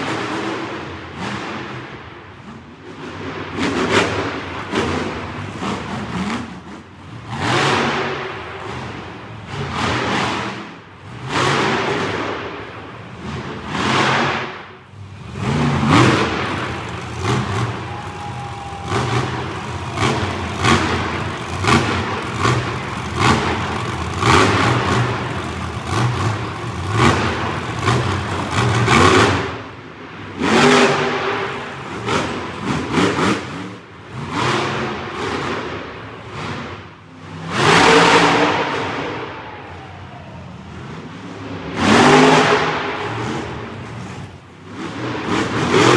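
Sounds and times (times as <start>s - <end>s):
monster truck engines revving: 0.0s - 45.9s.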